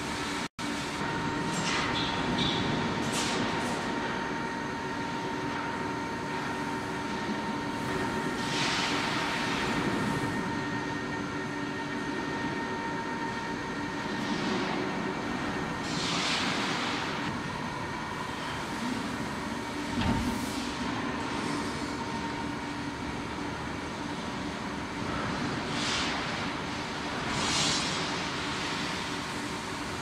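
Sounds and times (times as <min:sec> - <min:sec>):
industrial machinery hum: 0:00.0 - 0:30.0.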